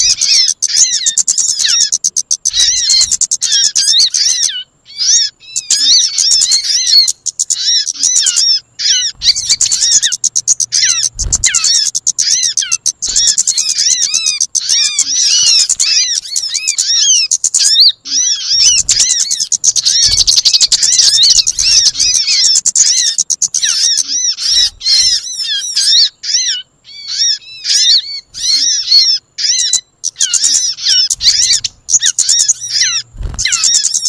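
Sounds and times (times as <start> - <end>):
birds chirping and whistling: 0.0 - 34.0.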